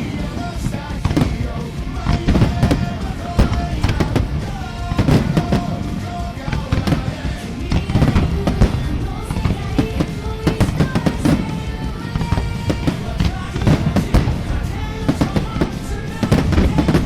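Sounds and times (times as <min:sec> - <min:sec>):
fireworks bursting and booming: 0:00.0 - 0:17.0
pop-rock song with singing: 0:00.0 - 0:17.0.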